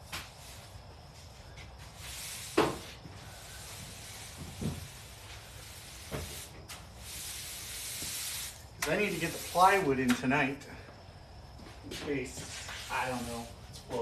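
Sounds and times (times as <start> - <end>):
broom sweeping floor: 0.0 - 10.3, 11.9 - 14.0.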